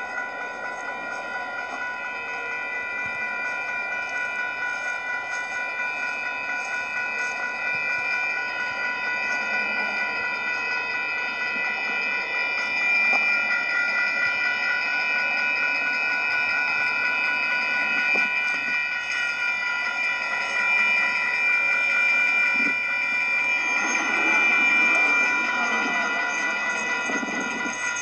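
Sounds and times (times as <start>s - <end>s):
railroad crossing bell ringing: 0.0s - 28.0s.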